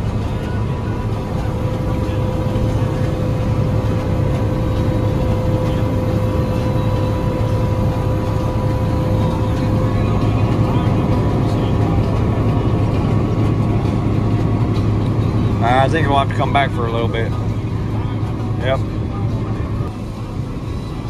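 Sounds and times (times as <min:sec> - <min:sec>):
high machine whine: 0:00.0 - 0:21.0
low engine drone: 0:00.0 - 0:21.0.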